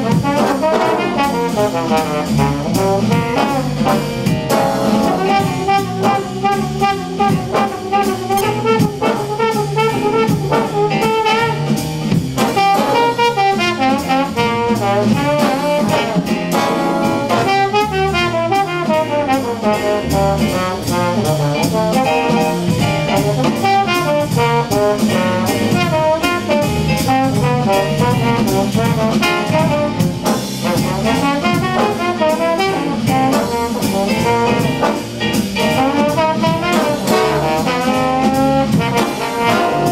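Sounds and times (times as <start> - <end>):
bass notes: 0.0 - 39.9
drums: 0.0 - 39.9
trombone jazz solo: 0.0 - 39.9.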